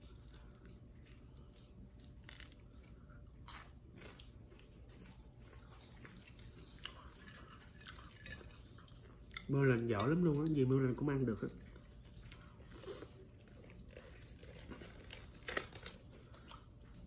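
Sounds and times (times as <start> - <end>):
crunchy chewing: 0.0 - 10.7, 11.4 - 17.0.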